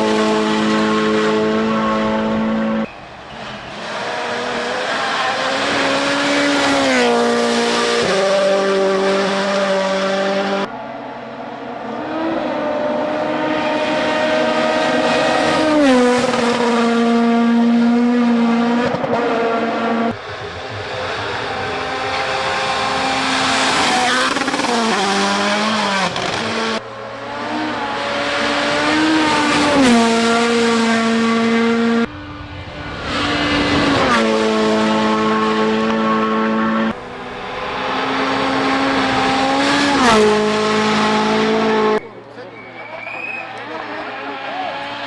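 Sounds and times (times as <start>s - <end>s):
rally car engines at full throttle: 0.0s - 45.0s.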